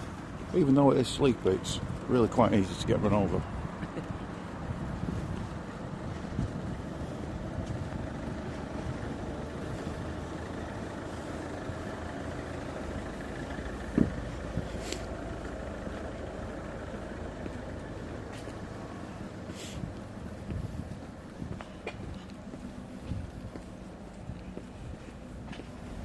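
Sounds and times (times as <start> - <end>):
car traffic: 0.0 - 26.0.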